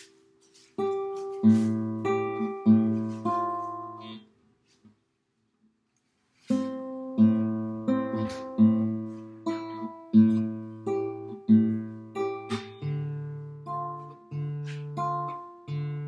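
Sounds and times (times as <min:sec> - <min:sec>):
classical guitar fingerstyle: 0:00.0 - 0:04.3, 0:06.4 - 0:16.0.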